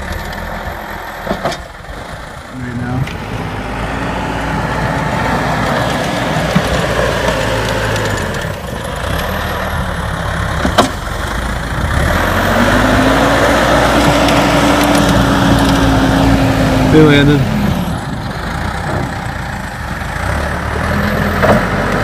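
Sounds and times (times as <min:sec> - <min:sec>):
diesel engine running under load: 0:00.0 - 0:22.0.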